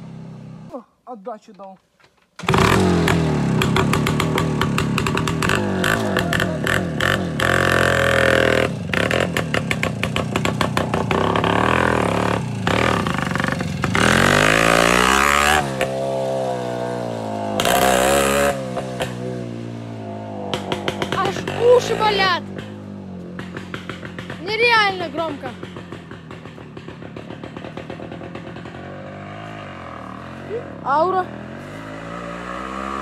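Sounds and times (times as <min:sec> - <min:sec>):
exhaust popping: 0:02.4 - 0:33.0
two-stroke engine revving loudly: 0:02.4 - 0:33.0.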